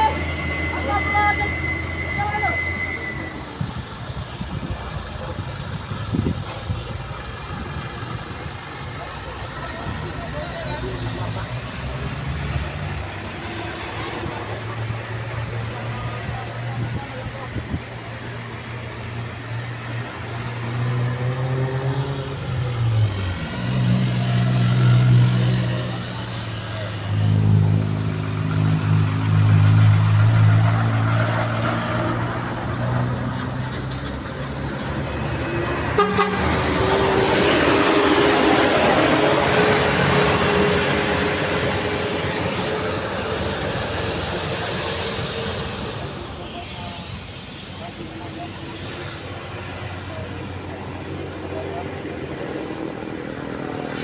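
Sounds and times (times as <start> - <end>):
road noise: 0.0 - 54.0
truck diesel engine climbing: 0.0 - 54.0.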